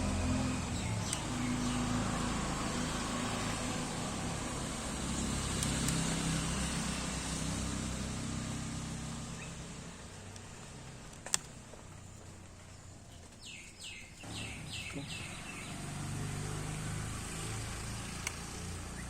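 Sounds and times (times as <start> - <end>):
vehicle passing rumble: 0.0 - 13.4, 14.2 - 19.0.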